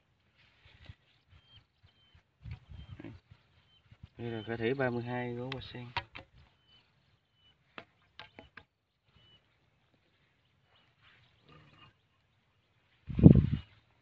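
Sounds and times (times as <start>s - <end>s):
faint bird chirps: 0.7s - 14.0s.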